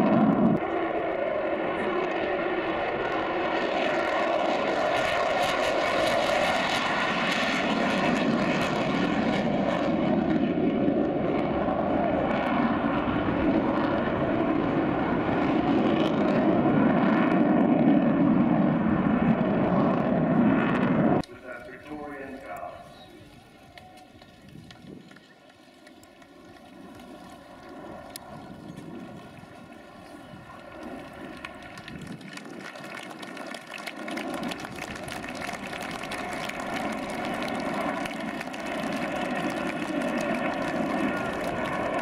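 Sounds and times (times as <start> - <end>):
jet aircraft engines roaring: 0.0 - 42.0.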